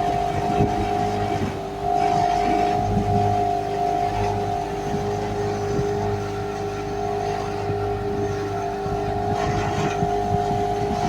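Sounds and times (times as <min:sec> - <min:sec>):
motorboat engine droning: 0:00.0 - 0:11.0.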